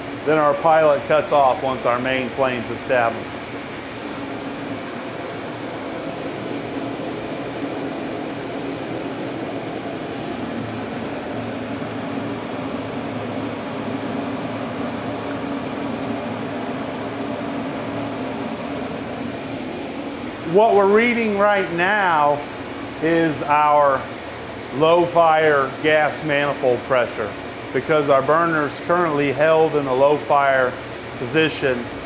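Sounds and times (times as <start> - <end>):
gas burner blower fan drone: 0.0 - 32.0.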